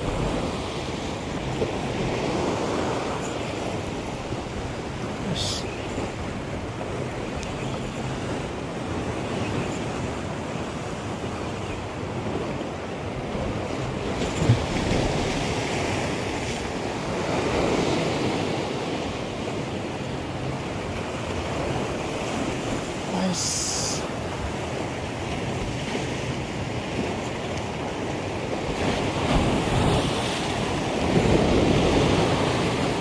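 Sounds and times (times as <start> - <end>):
sea waves washing onto shore: 0.0 - 33.0.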